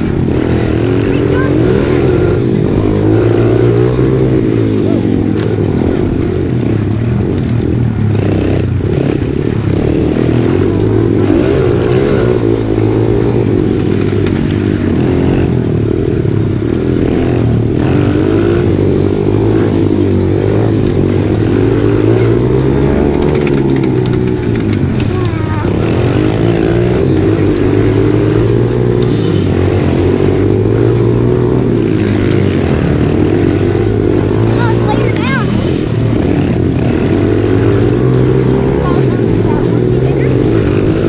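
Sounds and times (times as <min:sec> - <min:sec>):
motorbike engine revving: 0:00.0 - 0:41.0.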